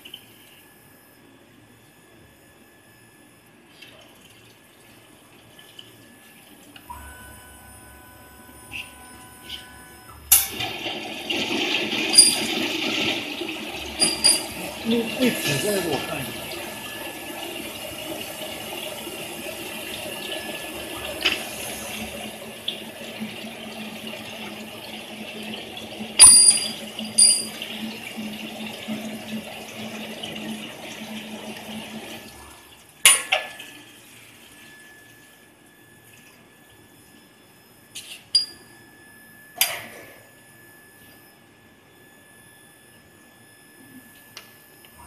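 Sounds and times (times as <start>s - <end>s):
machine low hum: 0.0s - 45.0s.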